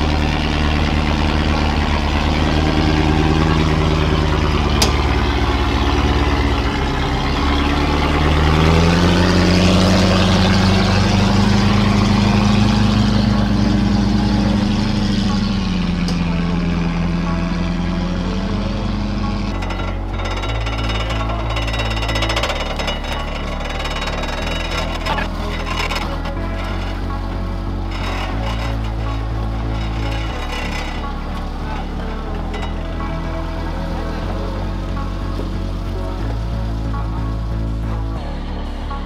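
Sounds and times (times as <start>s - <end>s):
engine pulling at low revs: 0.0s - 39.0s.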